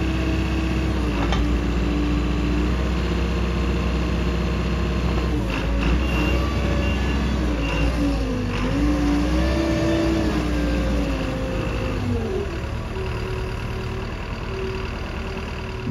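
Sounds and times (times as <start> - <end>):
diesel engine under hydraulic load: 0.0 - 15.9.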